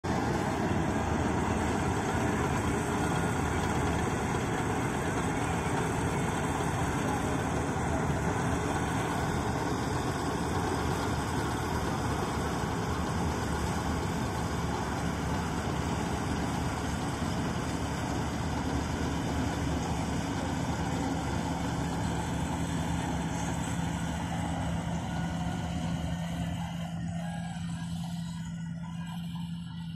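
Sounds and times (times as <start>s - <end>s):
combine harvester droning: 0.0s - 29.9s.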